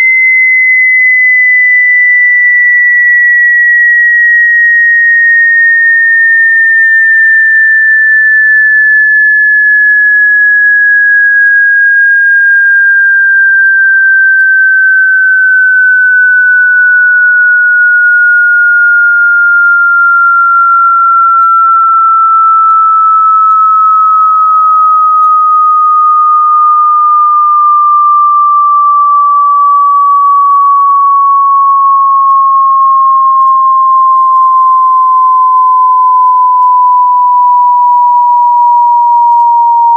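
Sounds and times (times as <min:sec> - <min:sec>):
electronic sine tone gliding down: 0:00.0 - 0:39.9.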